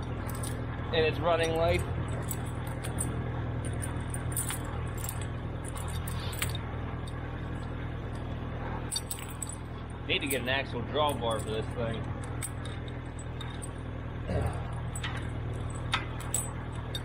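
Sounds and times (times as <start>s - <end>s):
steel chain clinking and rattling: 0.0s - 17.0s
tractor engine idling: 0.0s - 17.0s.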